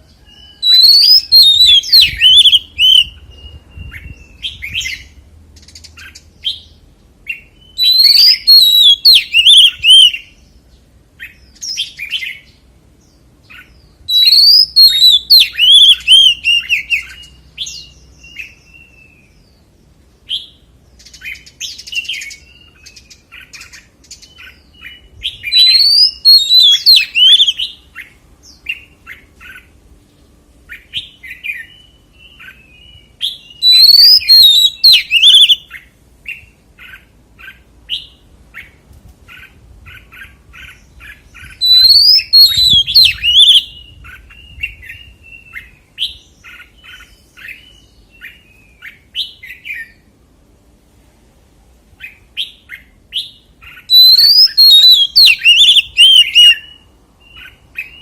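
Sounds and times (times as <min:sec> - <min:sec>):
bird whistled song: 0:00.0 - 0:10.6, 0:11.2 - 0:12.6, 0:13.4 - 0:29.7, 0:30.7 - 0:50.1, 0:52.0 - 0:58.0.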